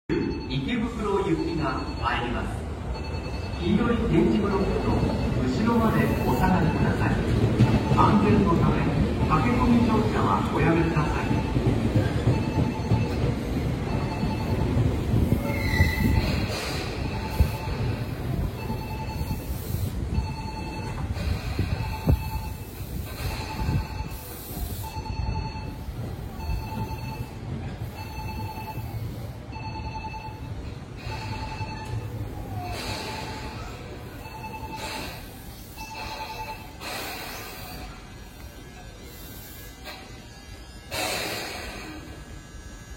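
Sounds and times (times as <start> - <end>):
train rumble: 1.4 - 42.9.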